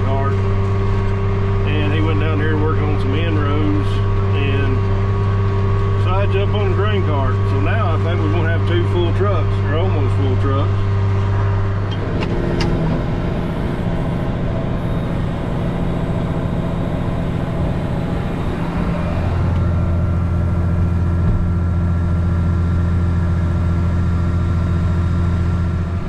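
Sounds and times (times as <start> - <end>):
tractor engine humming: 0.0 - 26.0.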